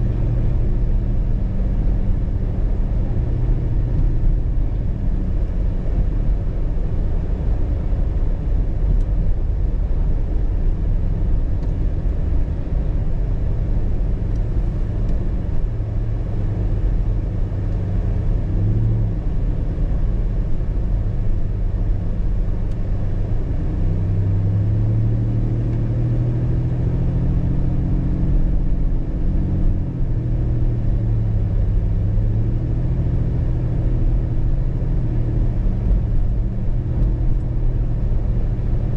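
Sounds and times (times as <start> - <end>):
car road and engine noise: 0.0 - 38.9.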